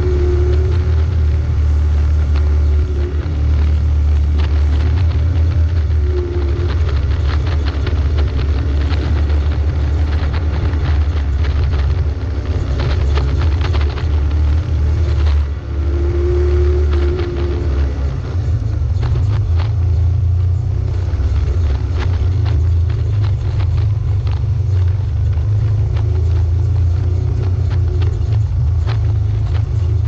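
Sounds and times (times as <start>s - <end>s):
engine rumble: 0.0s - 30.0s
vehicle rattling: 0.0s - 30.0s.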